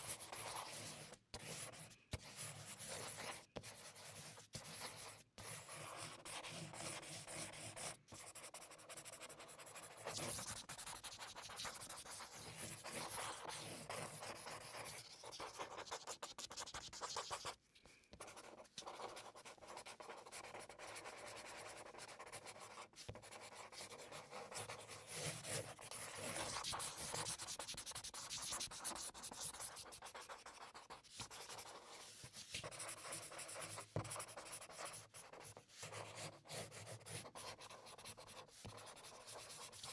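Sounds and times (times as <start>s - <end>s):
marker scratching on paper: 0.0s - 39.9s.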